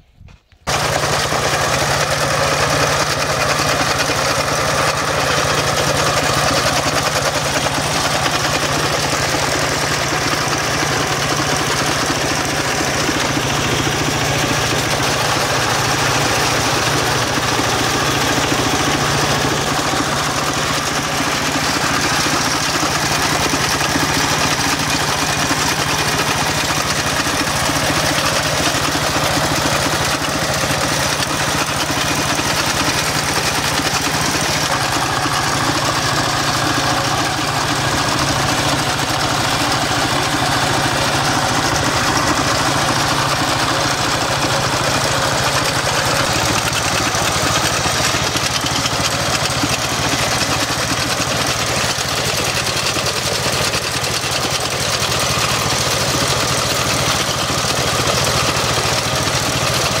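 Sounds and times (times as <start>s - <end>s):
diesel tractor engine running: 0.6s - 60.0s.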